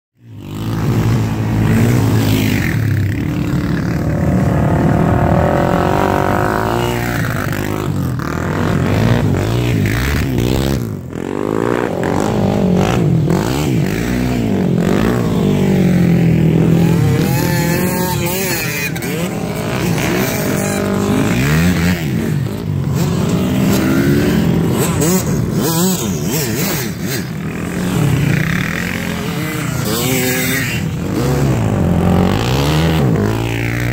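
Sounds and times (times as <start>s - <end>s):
quads and motorcycles revving: 0.2s - 33.9s.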